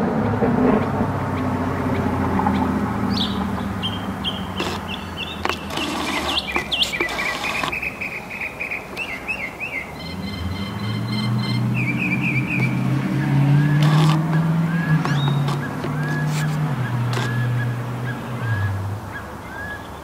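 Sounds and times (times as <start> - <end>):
road traffic hum: 0.0 - 20.0
bird singing: 0.8 - 20.0.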